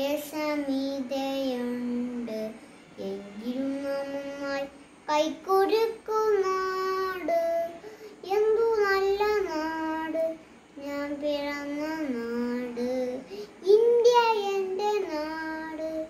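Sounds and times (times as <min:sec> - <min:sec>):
boy singing unaccompanied: 0:00.0 - 0:16.0.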